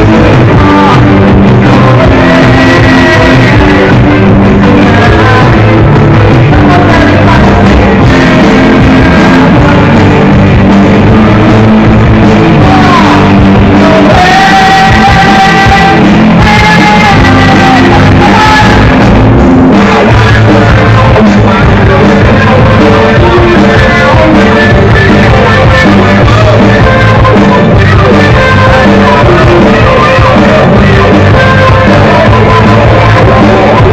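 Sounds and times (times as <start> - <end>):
man singing long notes: 0.0 - 33.9
rock band playing live: 0.0 - 33.9.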